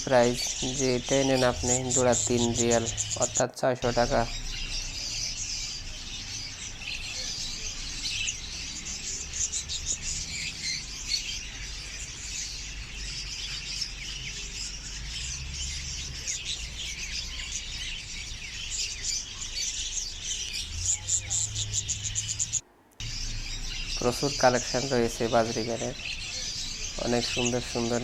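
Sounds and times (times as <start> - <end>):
budgerigars chirping: 0.0 - 28.0.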